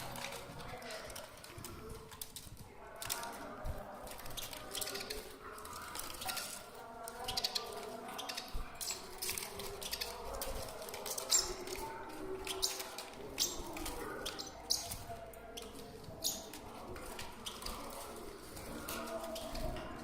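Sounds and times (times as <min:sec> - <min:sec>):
birds clicking tapping and rustling: 0:00.0 - 0:20.0.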